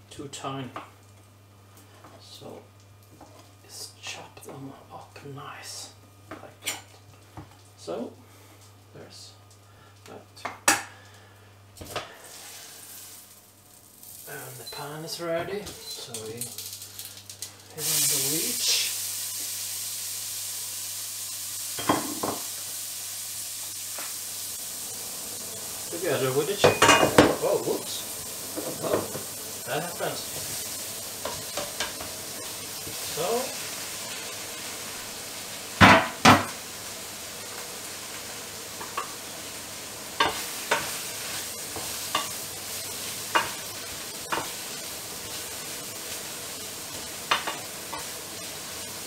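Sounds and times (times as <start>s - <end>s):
leek sizzling in frying pan: 0.6s - 49.0s.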